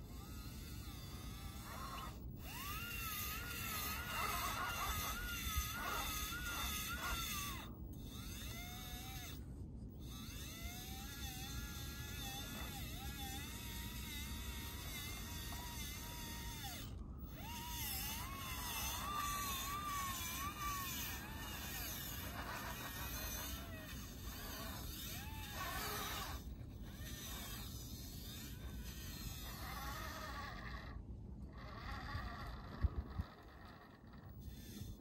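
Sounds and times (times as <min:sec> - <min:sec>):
electric motor whining: 0:00.0 - 0:35.0
low steady rumble: 0:00.0 - 0:35.0.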